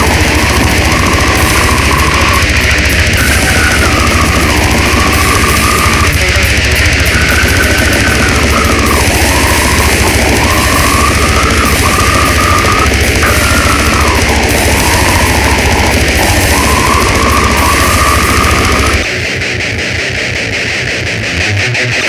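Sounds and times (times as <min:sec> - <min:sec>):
fast drumming: 0:00.0 - 0:19.2
distorted guitars: 0:00.0 - 0:22.0
wavering high guitar line: 0:00.0 - 0:22.0.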